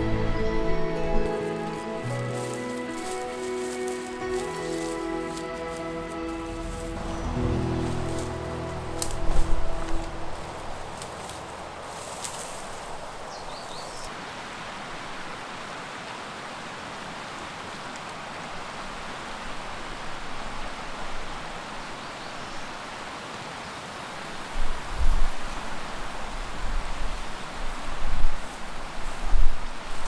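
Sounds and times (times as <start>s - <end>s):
stream water running: 1.2s - 30.0s.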